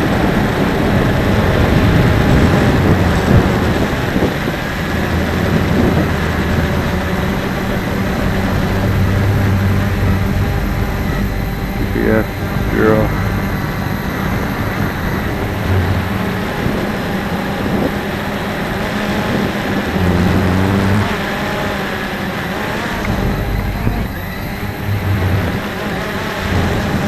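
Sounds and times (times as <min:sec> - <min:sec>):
quadcopter motors: 0:00.0 - 0:27.0
wind buffeting microphone: 0:00.0 - 0:27.0.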